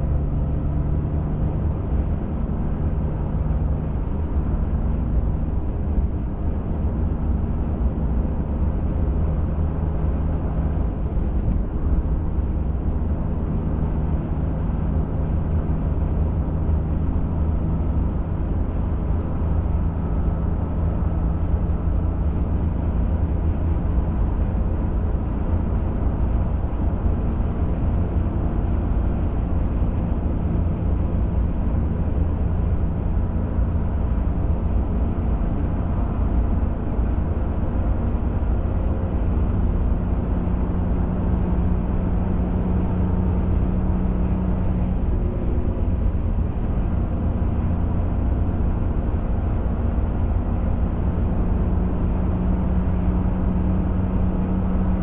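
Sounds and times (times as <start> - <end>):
truck engine hum: 0.0 - 55.0.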